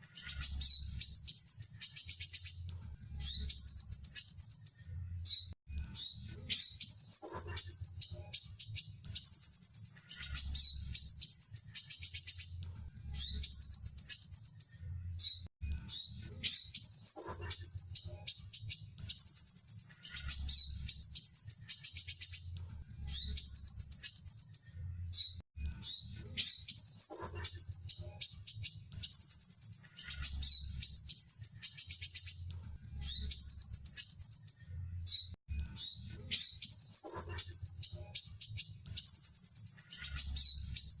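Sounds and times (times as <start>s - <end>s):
bird twittering: 0.0s - 2.6s, 3.2s - 41.0s.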